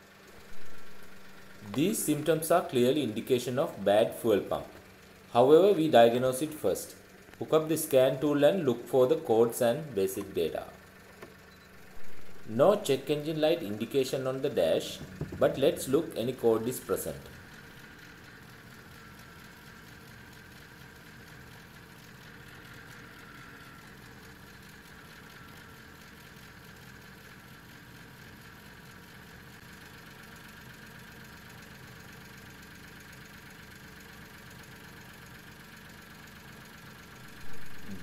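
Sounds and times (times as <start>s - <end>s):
faint engine idling: 0.0s - 38.0s.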